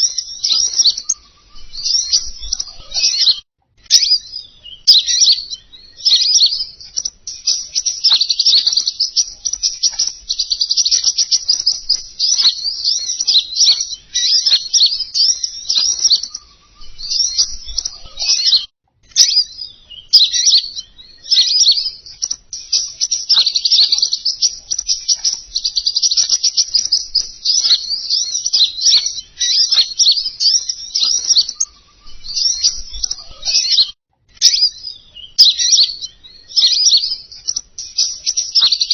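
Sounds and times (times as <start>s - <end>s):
bird song trills and chirps: 0.0s - 38.9s.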